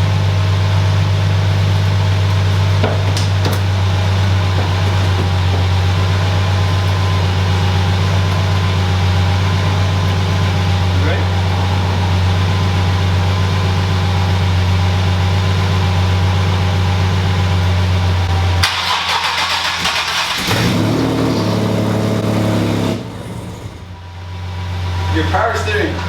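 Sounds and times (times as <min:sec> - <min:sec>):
car engine cranking and starting: 0:00.0 - 0:26.0.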